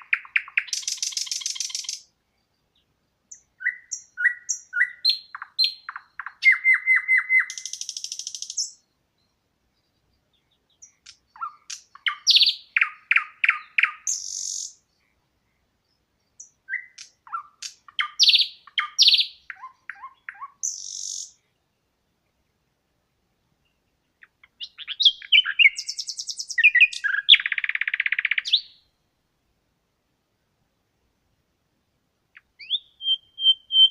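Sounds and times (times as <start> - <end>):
songbird chirps and trills: 0.0 - 33.9.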